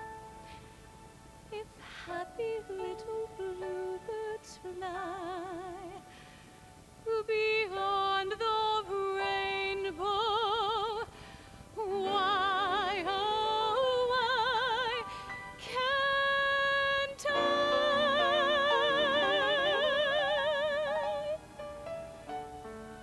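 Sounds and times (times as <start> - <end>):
woman singing with vibrato: 1.5 - 6.2, 7.0 - 11.2, 11.8 - 21.5.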